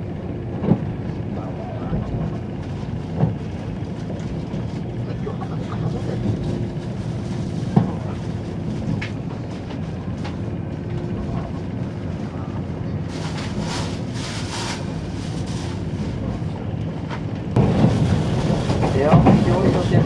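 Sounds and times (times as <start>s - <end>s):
train running noise from inside: 0.0s - 20.0s.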